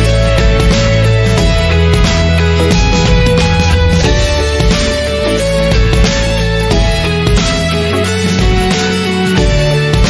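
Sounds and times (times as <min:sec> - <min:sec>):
guitar instrumental music: 0:00.0 - 0:10.0.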